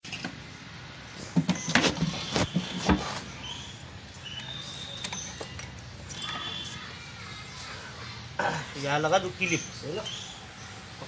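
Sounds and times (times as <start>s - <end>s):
faint high chirps: 1.5s - 10.8s.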